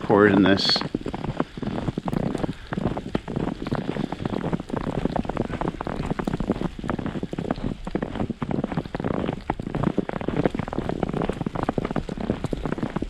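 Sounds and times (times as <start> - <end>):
snow crackling and crunching: 0.0 - 13.0.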